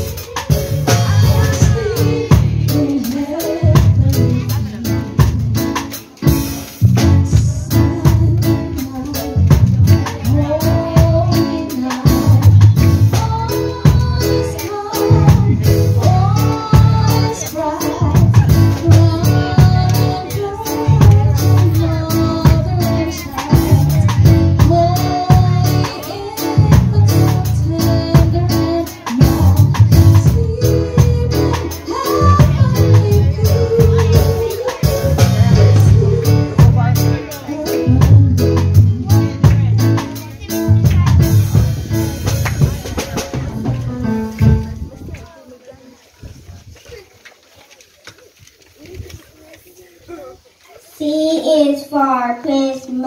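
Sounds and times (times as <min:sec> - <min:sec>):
loud music with drum beat and bass: 0:00.0 - 0:44.9.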